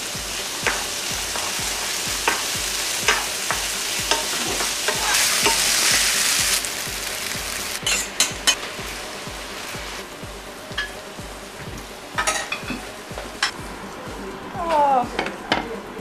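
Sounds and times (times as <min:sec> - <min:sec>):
food sizzling in a pan: 0:00.0 - 0:13.6.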